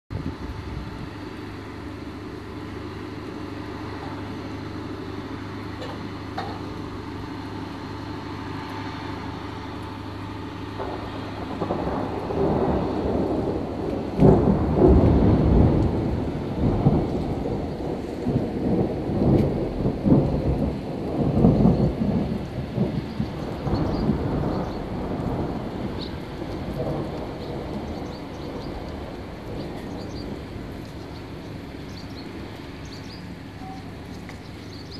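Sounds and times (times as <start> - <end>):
rain hissing: 0.1 - 34.9
thunder rumbling: 0.1 - 34.9.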